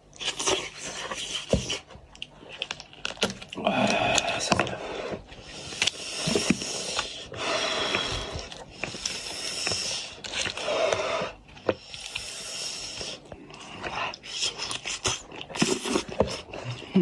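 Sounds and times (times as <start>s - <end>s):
sucking and slurping: 0.1s - 16.9s.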